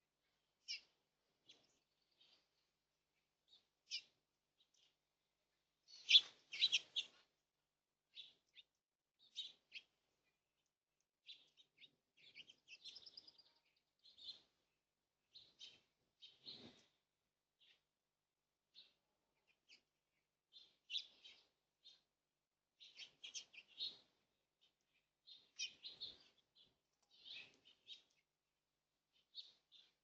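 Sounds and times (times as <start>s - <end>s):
birds chirping: 0.4s - 5.0s, 5.8s - 7.3s, 8.1s - 17.0s, 18.7s - 22.1s, 22.8s - 28.3s, 29.1s - 30.0s.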